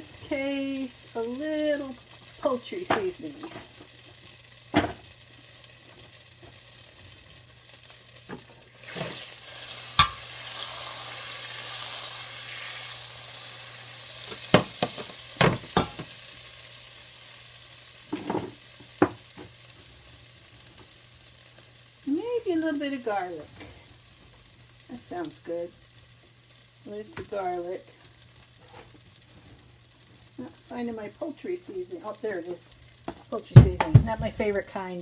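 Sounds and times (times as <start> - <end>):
butter sizzling in frying pan: 0.0 - 35.0.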